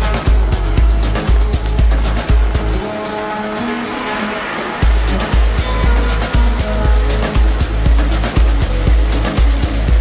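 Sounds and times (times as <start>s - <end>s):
music with heavy bass and drums: 0.0s - 10.0s.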